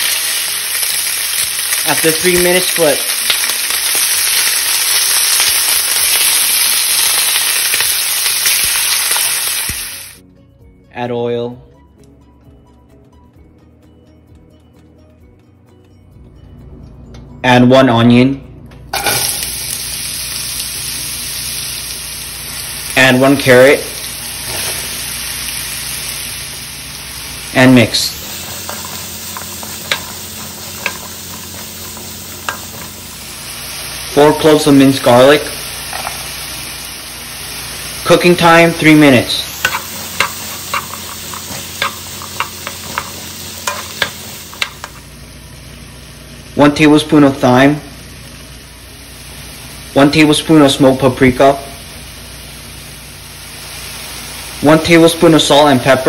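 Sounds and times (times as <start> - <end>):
steaks sizzling in hot oil: 0.0 - 10.2, 19.0 - 56.0.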